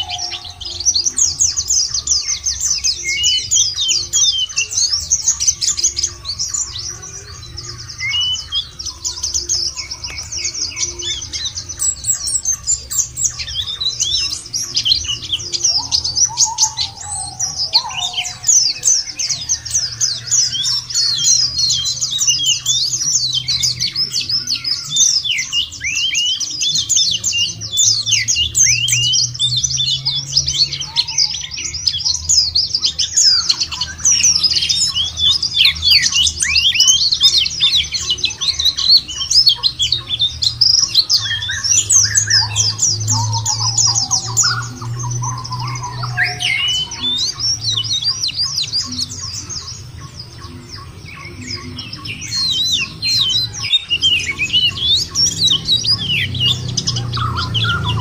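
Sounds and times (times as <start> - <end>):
flock of birds chirping: 0.0 - 58.0.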